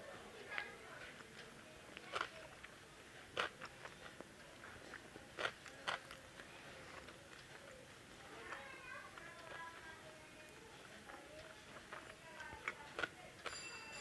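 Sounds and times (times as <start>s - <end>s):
soft chewing: 0.1s - 13.8s.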